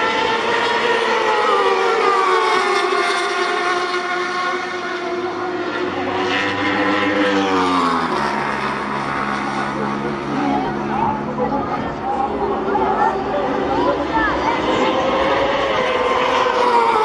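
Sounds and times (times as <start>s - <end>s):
racing motorcycle engine: 0.0s - 17.0s.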